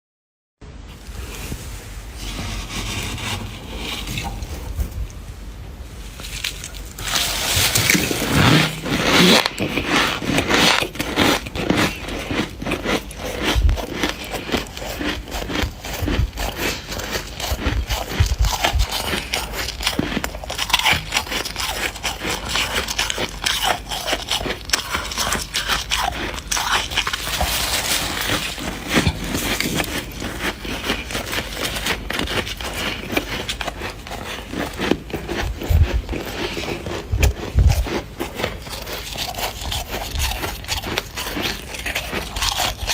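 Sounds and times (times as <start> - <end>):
frost squeaky crunching: 2.1 - 42.9.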